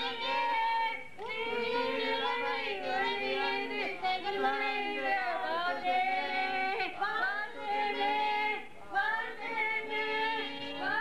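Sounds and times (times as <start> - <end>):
high voice singing: 0.0 - 11.0.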